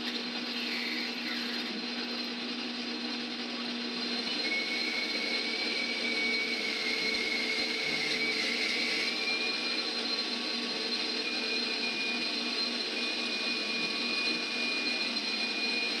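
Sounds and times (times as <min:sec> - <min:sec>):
drill running: 0:00.0 - 0:16.0.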